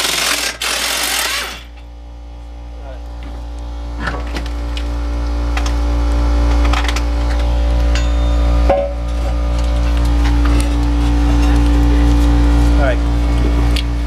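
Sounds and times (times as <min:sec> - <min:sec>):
low mechanical hum with pulse: 0:00.0 - 0:14.0.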